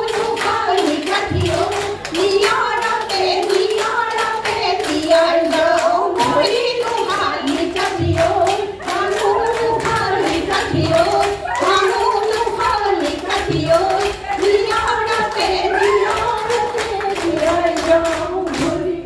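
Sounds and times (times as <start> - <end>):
group of women singing: 0.0 - 19.0
rhythmic hand clapping: 0.0 - 19.0.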